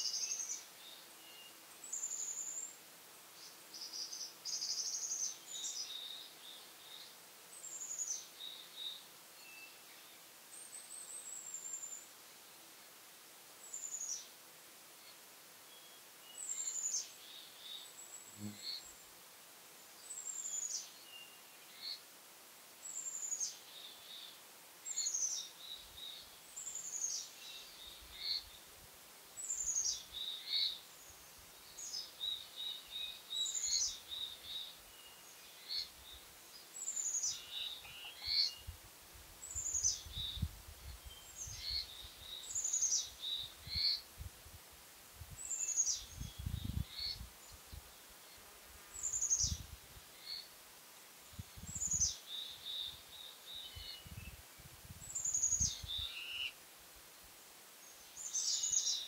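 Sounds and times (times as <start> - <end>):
songbird singing: 0.0 - 12.1, 13.6 - 19.1, 19.8 - 22.1, 22.8 - 38.8, 39.4 - 44.2, 45.2 - 50.6, 51.2 - 56.6, 57.8 - 59.0.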